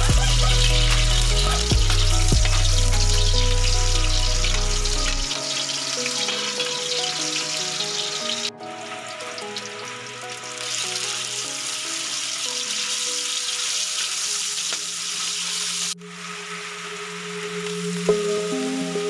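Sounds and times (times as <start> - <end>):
garlic and onion sizzling in oil: 0.0 - 18.4.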